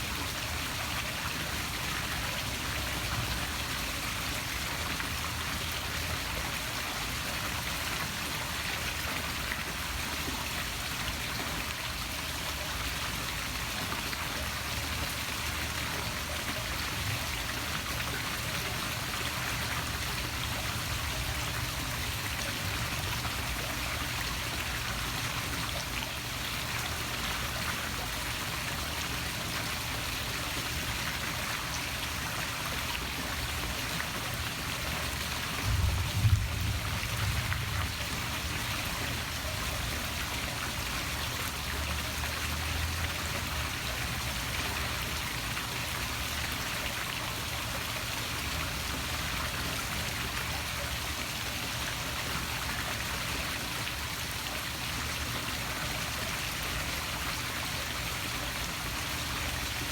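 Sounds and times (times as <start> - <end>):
waterfall splashing into pool: 0.0 - 59.9.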